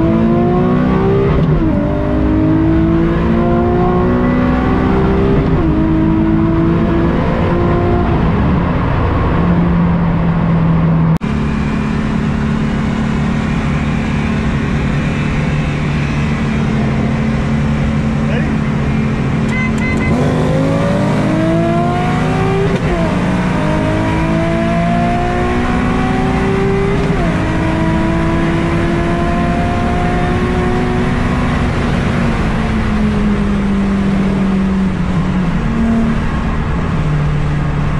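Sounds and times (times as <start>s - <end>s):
car engine revving at full throttle: 0.0s - 37.9s.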